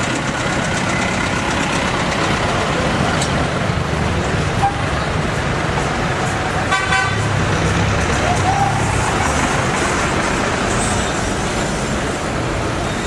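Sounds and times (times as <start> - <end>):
old car engines passing: 0.0 - 13.0.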